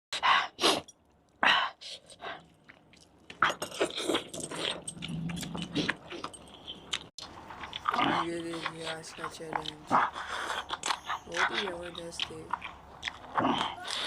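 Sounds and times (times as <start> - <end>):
wet biting and chewing: 0.7 - 14.0.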